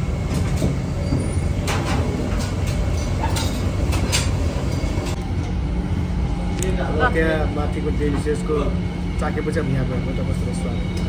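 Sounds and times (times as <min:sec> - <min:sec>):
restaurant crowd rumble: 0:00.0 - 0:11.0.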